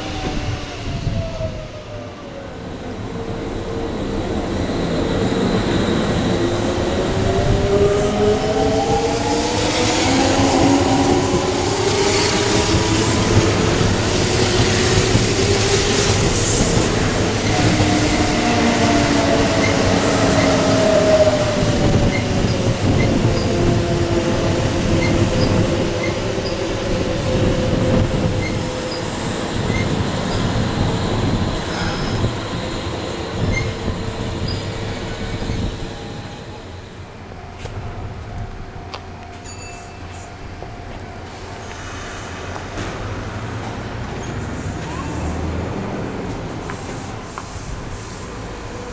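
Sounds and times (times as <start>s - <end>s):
electric train whine: 0.0s - 48.9s
train wheels rumbling on rails: 0.0s - 48.9s.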